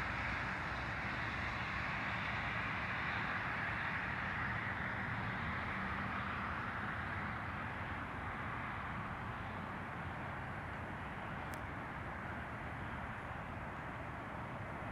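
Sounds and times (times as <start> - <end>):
distant jet engine noise: 0.0 - 14.9.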